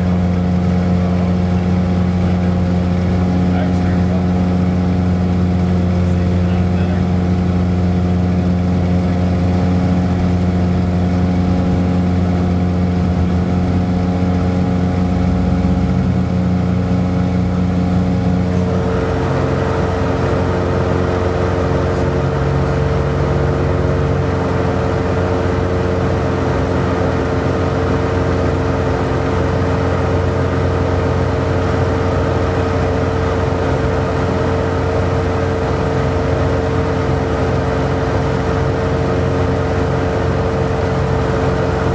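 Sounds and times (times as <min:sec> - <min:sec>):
aircraft engines droning in cabin: 0:00.0 - 0:41.9.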